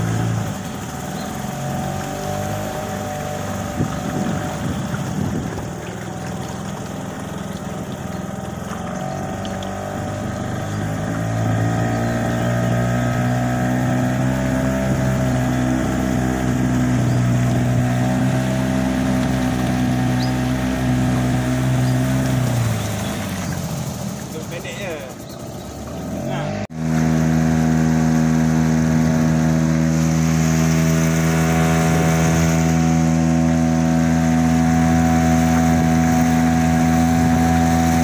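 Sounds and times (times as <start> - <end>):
small boat engine running: 0.0 - 38.0.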